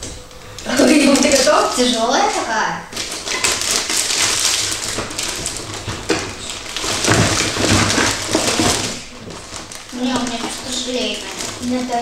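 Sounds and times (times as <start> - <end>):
candy wrappers crinkling: 0.5 - 12.0.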